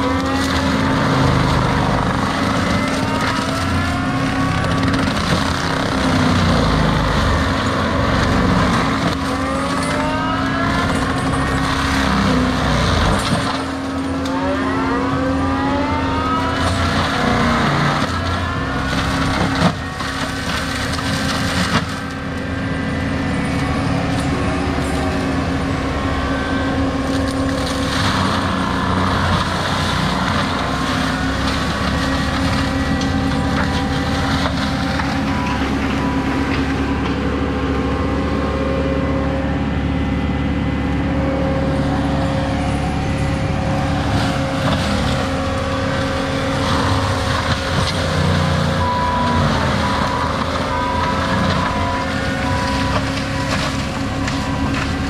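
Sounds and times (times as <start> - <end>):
heavy diesel machine droning: 0.0 - 55.0.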